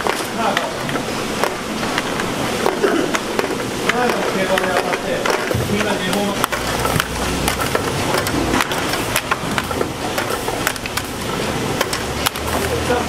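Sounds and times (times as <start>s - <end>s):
conveyor machinery hum: 0.0s - 13.0s.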